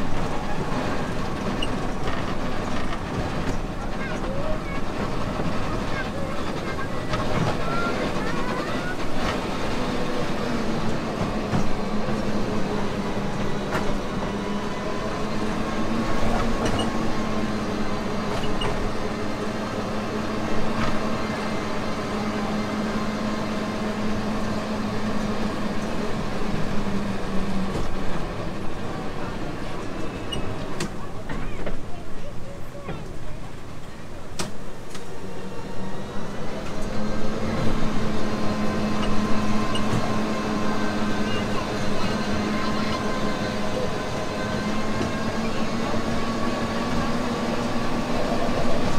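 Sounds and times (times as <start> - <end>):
small train humming: 0.0 - 48.9
train cars clicking and rattling: 0.0 - 48.9.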